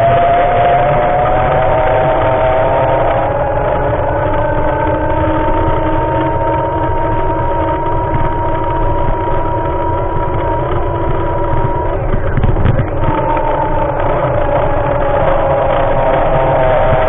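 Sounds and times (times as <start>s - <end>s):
vehicle engine humming: 0.0s - 17.0s
wind and road noise: 0.0s - 17.0s.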